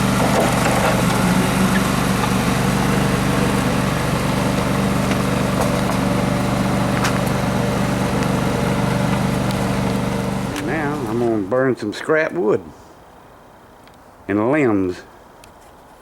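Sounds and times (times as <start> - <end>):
tractor engine humming: 0.0 - 12.8.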